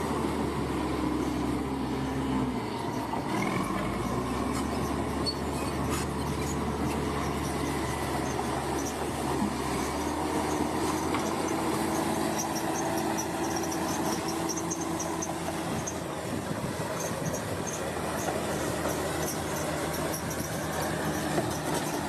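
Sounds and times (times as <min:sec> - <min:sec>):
heavy machine engine drone: 0:00.0 - 0:22.0.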